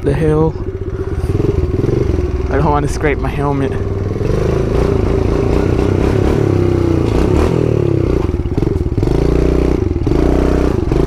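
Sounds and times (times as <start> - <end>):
dirt bike engine revving: 0.1 - 11.0.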